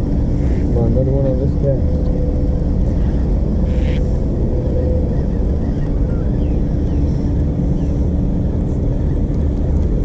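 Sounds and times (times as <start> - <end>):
faint constant hum: 0.0 - 10.0
wind rumbling on microphone: 0.0 - 10.0.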